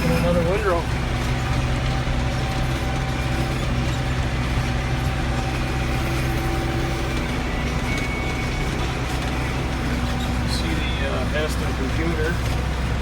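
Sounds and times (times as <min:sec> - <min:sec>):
round baler working: 0:00.0 - 0:13.0
tractor diesel engine running: 0:00.0 - 0:13.0.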